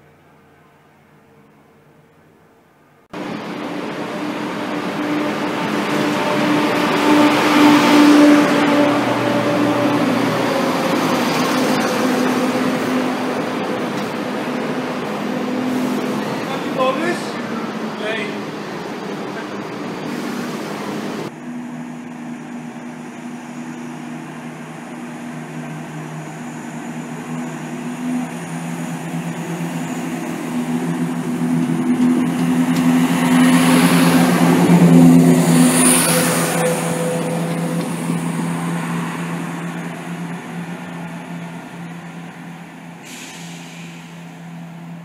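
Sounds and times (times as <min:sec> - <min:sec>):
diesel train engine drone: 0:00.0 - 0:45.0
high whine: 0:03.1 - 0:45.0.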